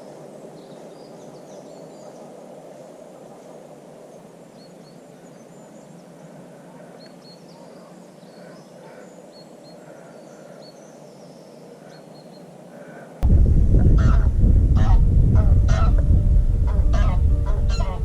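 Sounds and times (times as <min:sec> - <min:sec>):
small birds chirping: 0:00.0 - 0:13.2, 0:14.0 - 0:18.0
low rushing background noise: 0:00.0 - 0:18.0.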